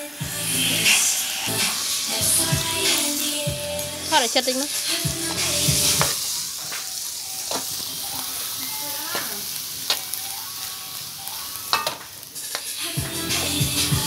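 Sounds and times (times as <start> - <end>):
sizzling hiss: 0.0 - 14.0
metal spatula scraping wok: 0.2 - 10.4, 11.4 - 12.7.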